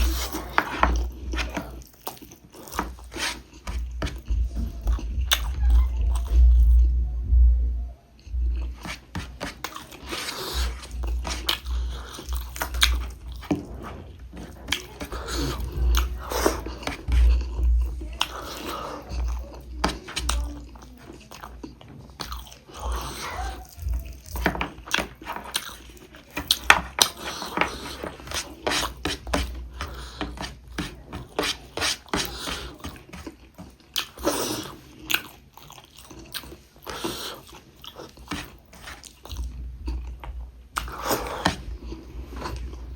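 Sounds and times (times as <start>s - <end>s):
person chewing and biting: 0.0s - 6.8s, 8.5s - 42.9s.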